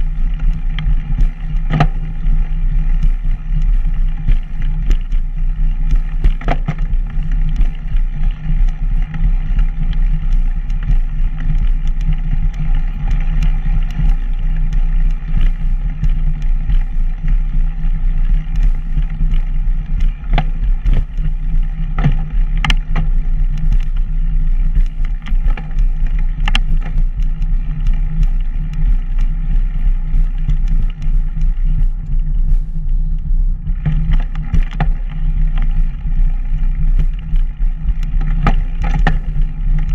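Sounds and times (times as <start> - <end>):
rumble and vibration noise: 0.0 - 39.9
sharp clicks and rattles: 0.0 - 39.9.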